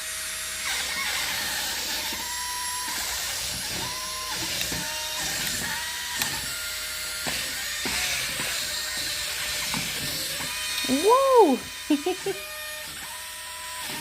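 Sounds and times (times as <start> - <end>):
small motor whines: 0.0 - 14.0.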